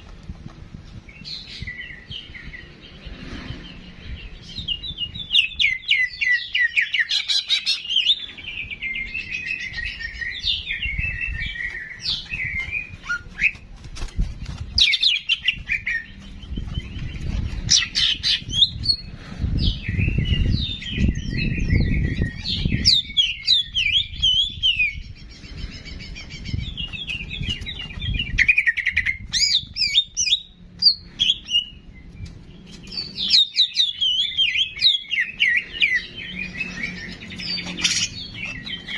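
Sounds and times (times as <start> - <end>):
songbird chattering song: 1.0 - 38.9.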